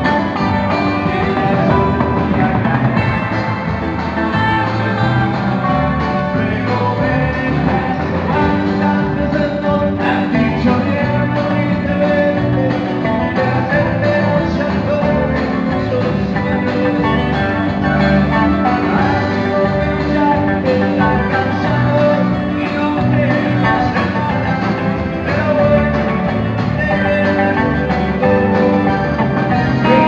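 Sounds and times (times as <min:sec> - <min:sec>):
electric guitar: 0:00.0 - 0:30.0
live band music: 0:00.0 - 0:30.0
person singing: 0:00.0 - 0:30.0.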